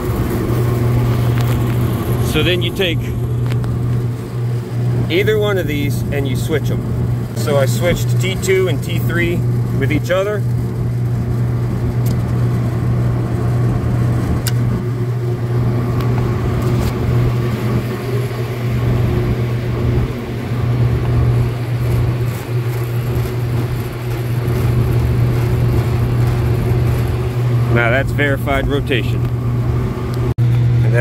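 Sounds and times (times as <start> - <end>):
condenser fans humming: 0.0 - 31.0.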